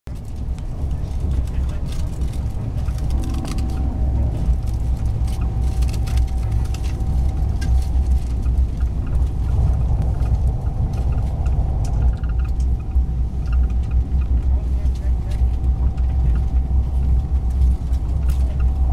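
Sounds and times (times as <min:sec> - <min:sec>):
faint steady whine: 0:00.1 - 0:18.9
train rumbling: 0:00.1 - 0:18.9.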